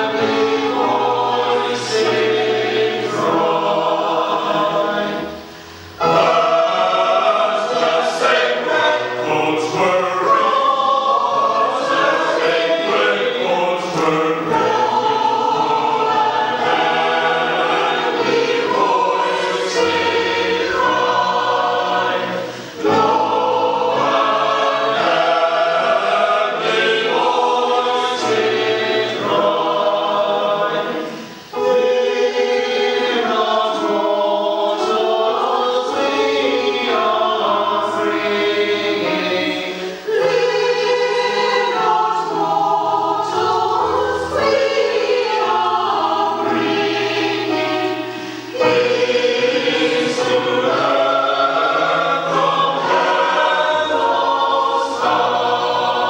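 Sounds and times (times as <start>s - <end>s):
mixed choir singing a carol: 0.0s - 56.0s.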